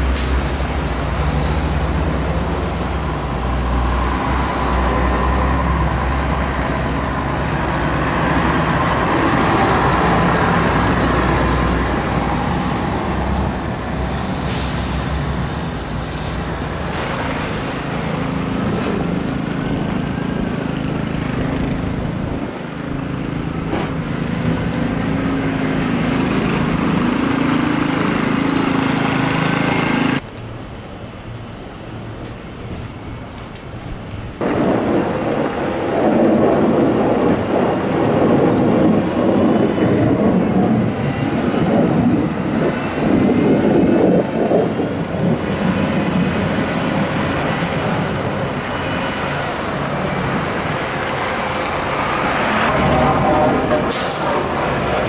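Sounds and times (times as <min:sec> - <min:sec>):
street traffic: 0:00.0 - 0:55.0
truck engine rumbling: 0:00.0 - 0:55.0.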